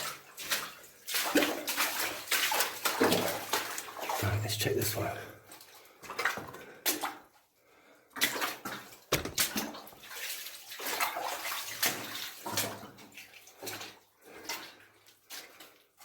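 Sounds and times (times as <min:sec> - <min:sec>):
boots wading through shallow water: 0:00.0 - 0:07.3, 0:08.1 - 0:16.0.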